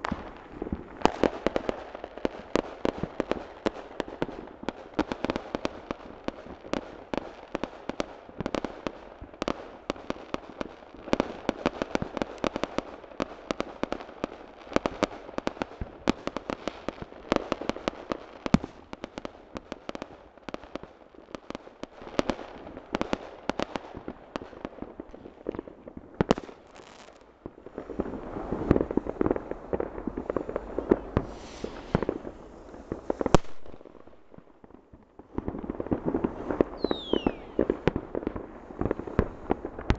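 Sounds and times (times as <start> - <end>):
fireworks banging and popping: 0.0 - 39.9.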